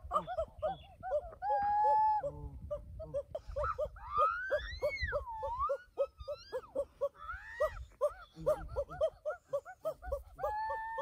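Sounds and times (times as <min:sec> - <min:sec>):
animal calls: 0:00.0 - 0:11.0.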